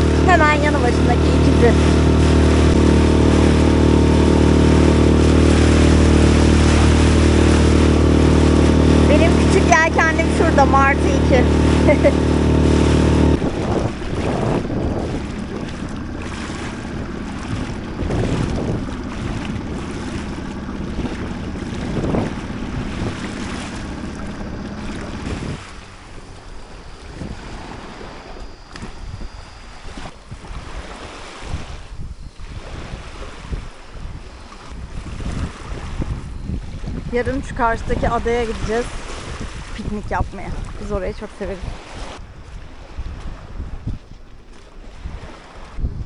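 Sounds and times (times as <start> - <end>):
faint motor hum: 0.0 - 46.0
water splashing along hull: 0.0 - 46.0
wind buffeting microphone: 0.0 - 46.0.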